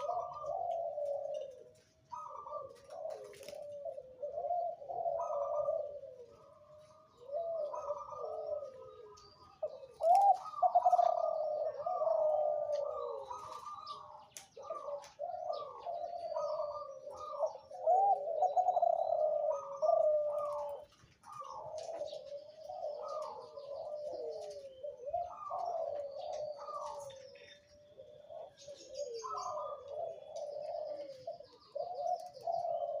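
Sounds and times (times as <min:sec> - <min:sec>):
dove cooing: 0:00.0 - 0:33.0
small birds chirping: 0:00.0 - 0:33.0.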